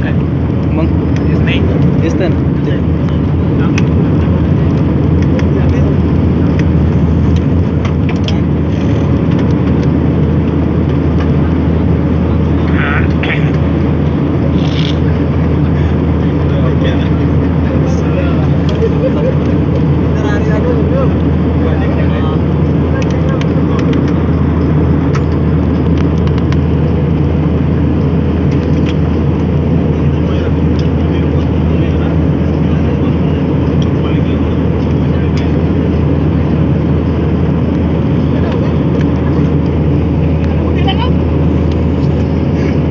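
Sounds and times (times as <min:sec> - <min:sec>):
airliner cabin engine rumble: 0:00.0 - 0:42.9.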